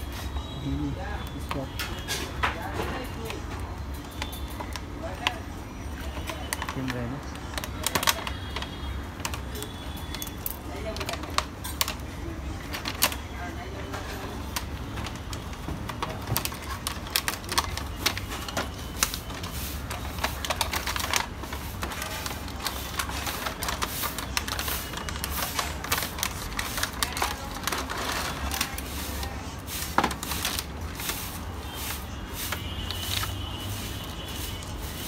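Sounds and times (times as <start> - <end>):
packaging clicks and crinkling: 0.0 - 35.0.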